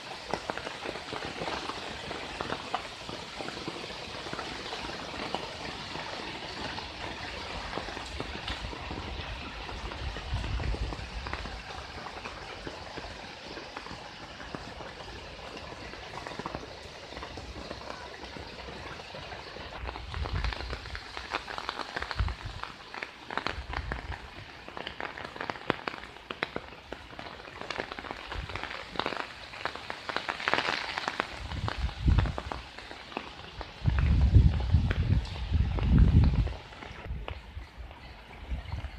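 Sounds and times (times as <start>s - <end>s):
heavy rain on water and foliage: 0.0s - 38.9s.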